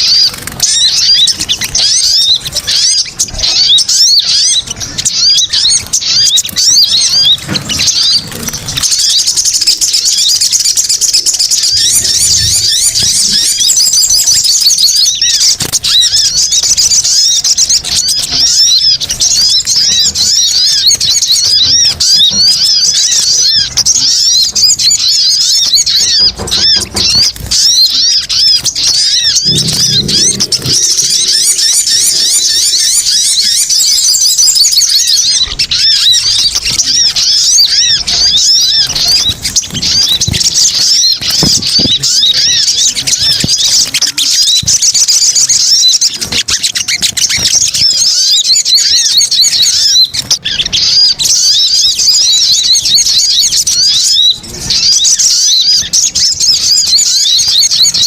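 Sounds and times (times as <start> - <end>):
sunbirds chattering: 0.0 - 58.0.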